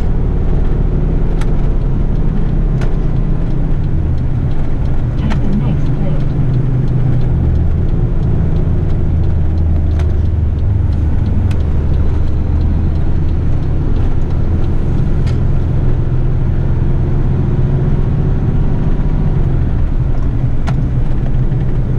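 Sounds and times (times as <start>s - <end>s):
truck diesel engine drone: 0.0s - 21.9s.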